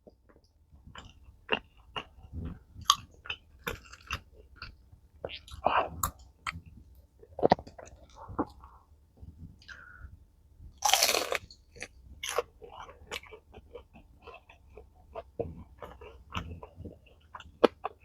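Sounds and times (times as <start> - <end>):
chewing and biting: 0.1 - 10.0, 10.7 - 18.0.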